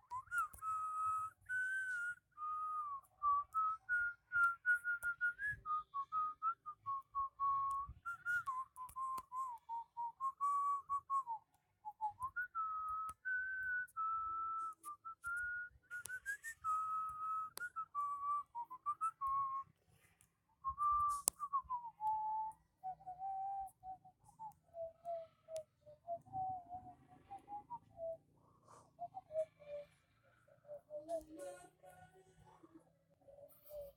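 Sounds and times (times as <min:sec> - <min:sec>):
person whistling a tune: 0:00.0 - 0:31.6.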